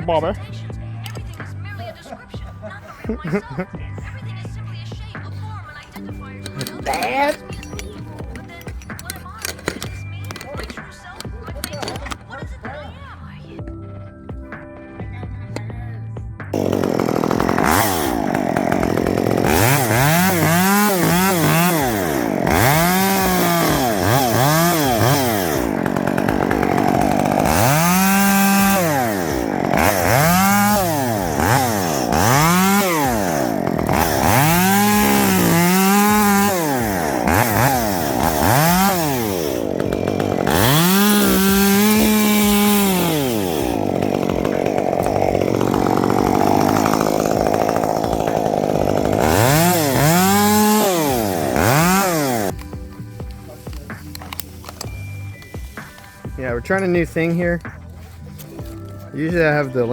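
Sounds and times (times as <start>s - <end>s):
chainsaw revving: 0.0s - 13.1s, 16.5s - 59.9s.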